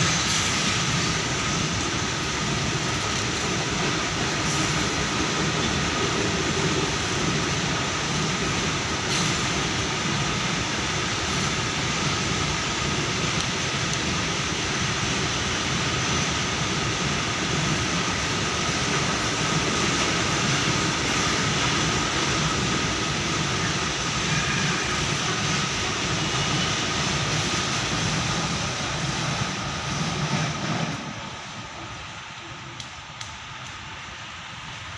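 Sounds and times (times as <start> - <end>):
train rumble and hiss: 0.0 - 34.9.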